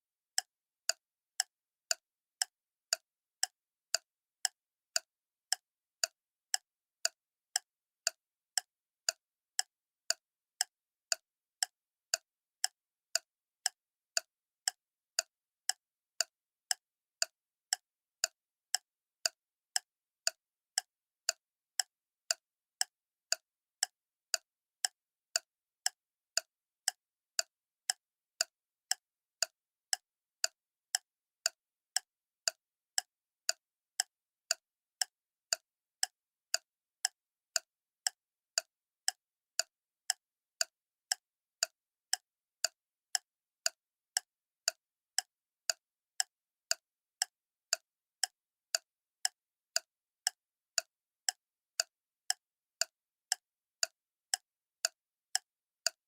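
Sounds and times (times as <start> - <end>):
clock ticking: 0.4 - 56.0.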